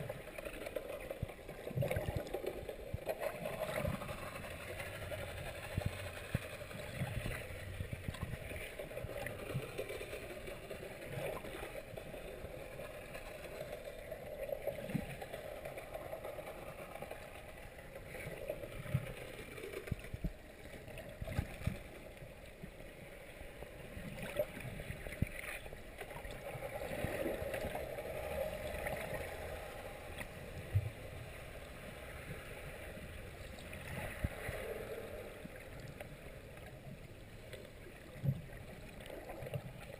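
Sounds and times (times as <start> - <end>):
muffled underwater wash: 0.0 - 39.9.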